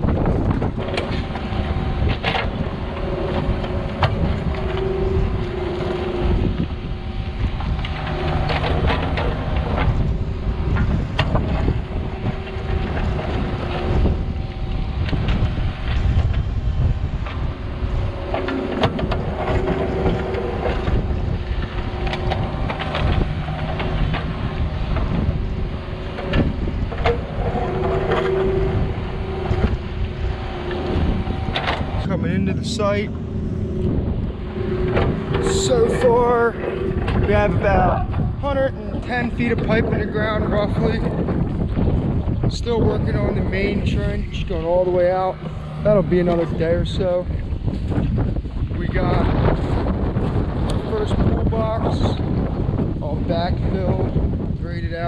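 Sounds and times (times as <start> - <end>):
excavator diesel engine running: 0.0 - 41.4, 42.4 - 48.2
wind buffeting microphone: 0.0 - 55.0.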